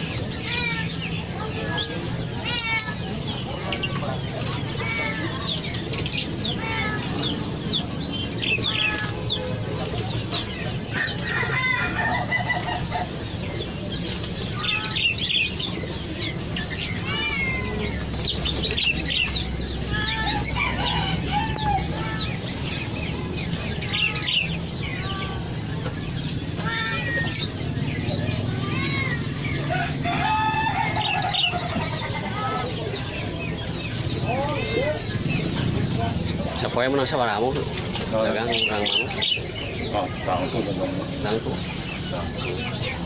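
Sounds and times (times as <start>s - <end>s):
chickens clucking: 7.2s - 23.9s, 24.5s - 43.0s.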